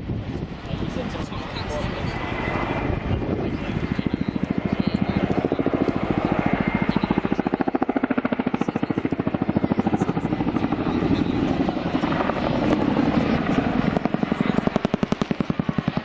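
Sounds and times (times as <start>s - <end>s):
helicopter rotor blade slap: 0.3s - 16.0s.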